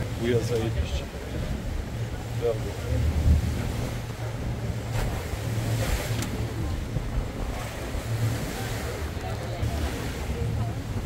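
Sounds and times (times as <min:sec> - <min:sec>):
boat engine humming: 0:00.0 - 0:11.0
sea splashing against hull: 0:00.0 - 0:11.0.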